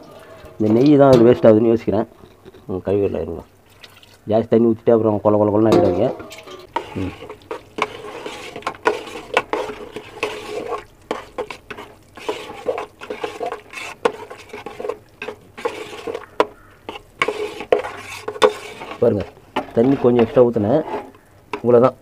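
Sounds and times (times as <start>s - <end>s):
spoon stirring thick mixture in pot: 0.0s - 3.2s, 5.4s - 22.0s.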